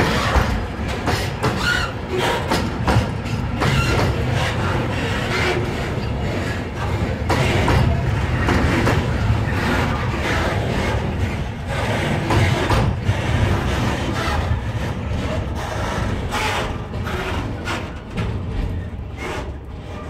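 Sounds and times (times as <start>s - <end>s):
freight wagons rumbling on rails: 0.0s - 20.0s.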